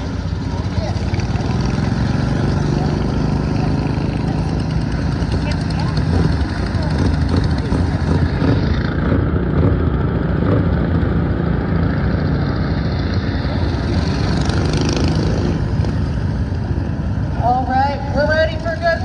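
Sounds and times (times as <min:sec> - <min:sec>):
lawn mower engines racing: 0:00.0 - 0:19.0.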